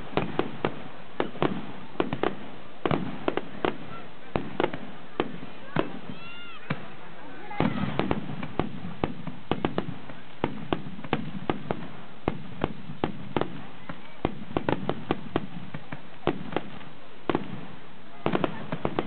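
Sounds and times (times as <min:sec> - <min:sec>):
background hiss: 0:00.0 - 0:19.0
fireworks cracking and popping: 0:00.0 - 0:19.0.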